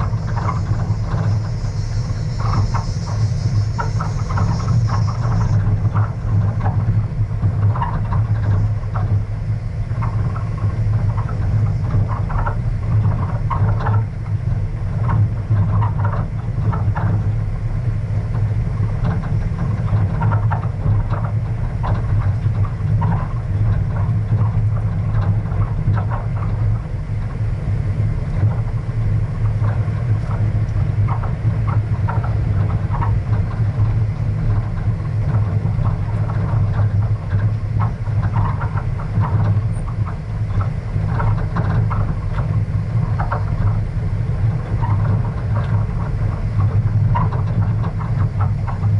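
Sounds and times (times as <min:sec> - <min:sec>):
low engine drone: 0:00.0 - 0:48.9
vehicle body rattling: 0:00.0 - 0:48.9.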